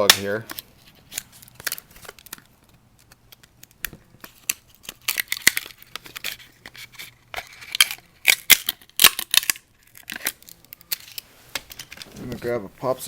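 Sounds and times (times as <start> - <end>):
carbon fiber crackling and popping: 0.0 - 13.0.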